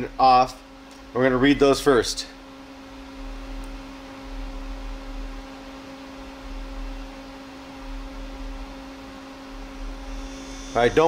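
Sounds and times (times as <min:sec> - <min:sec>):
power supply electrical buzz: 0:00.0 - 0:11.0.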